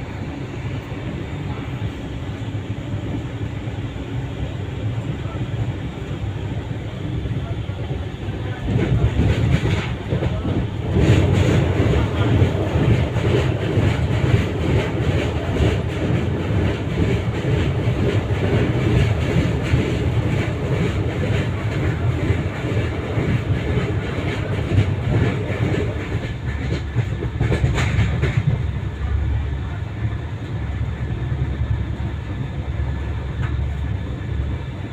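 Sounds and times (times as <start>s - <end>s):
passenger train running on tracks: 0.0s - 34.9s.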